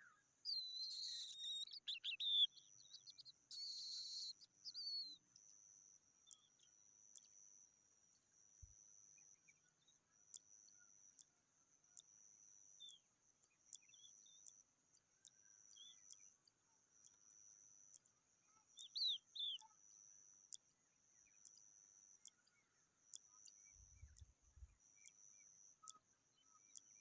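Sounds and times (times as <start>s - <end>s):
faint bird chirps: 0.0s - 27.0s.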